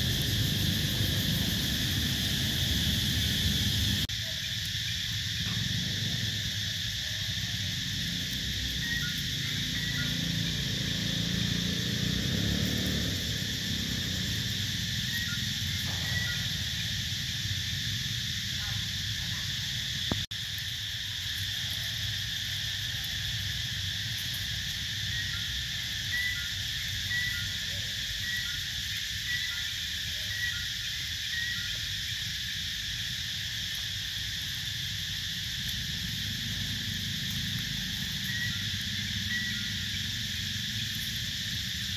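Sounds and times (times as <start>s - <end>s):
insect chorus: 0.0s - 41.9s.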